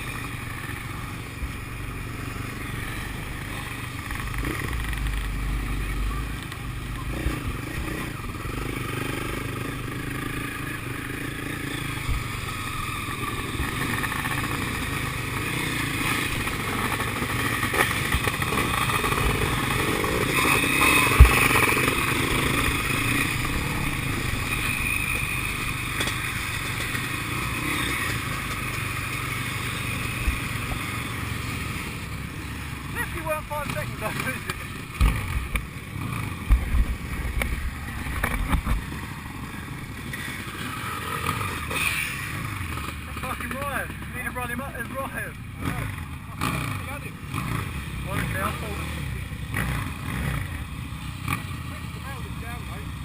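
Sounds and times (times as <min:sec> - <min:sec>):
motocross engines revving: 0:00.0 - 0:53.0.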